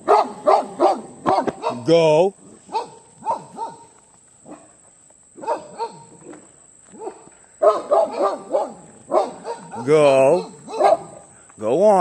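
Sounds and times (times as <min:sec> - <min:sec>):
dogs barking: 0:00.0 - 0:04.8, 0:05.4 - 0:11.3.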